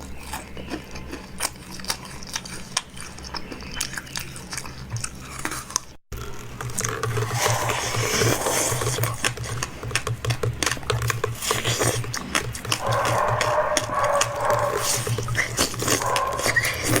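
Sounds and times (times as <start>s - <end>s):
person biting and chewing: 0.0s - 17.0s.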